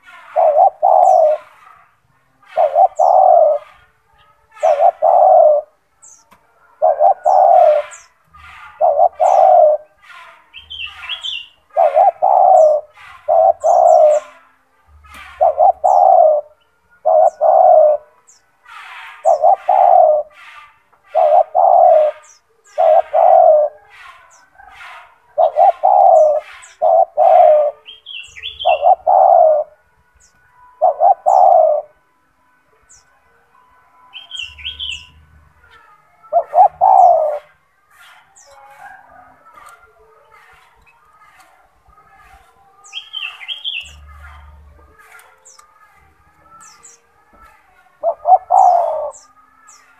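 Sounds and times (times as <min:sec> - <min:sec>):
dove cooing: 0:00.0 - 0:29.8, 0:30.7 - 0:32.0, 0:34.2 - 0:45.9, 0:47.6 - 0:49.9
small birds chirping: 0:00.0 - 0:31.9, 0:32.8 - 0:33.2, 0:34.1 - 0:49.9.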